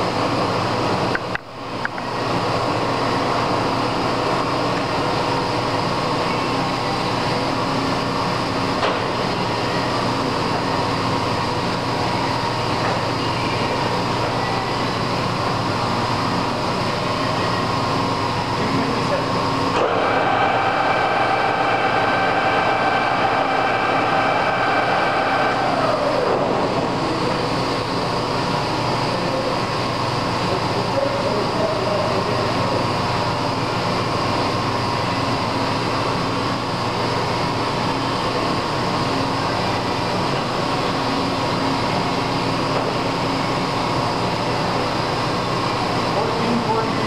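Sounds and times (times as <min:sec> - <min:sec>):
lathe droning with gear whine: 0:02.1 - 0:47.0.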